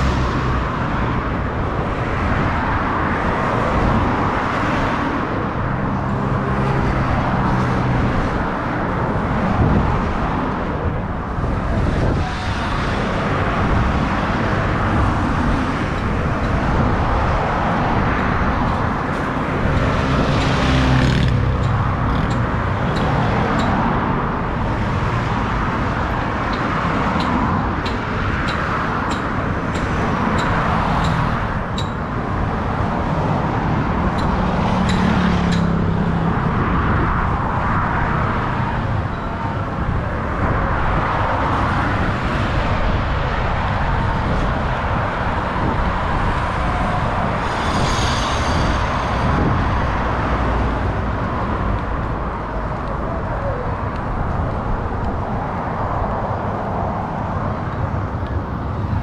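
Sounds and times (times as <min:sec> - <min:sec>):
highway traffic passing: 0:00.0 - 0:59.0.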